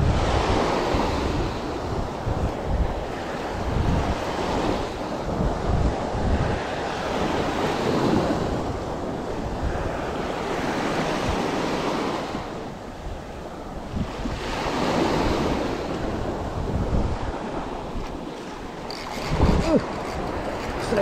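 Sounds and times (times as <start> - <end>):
sea waves breaking on beach: 0.0 - 21.0
wind buffeting microphone: 0.0 - 21.0.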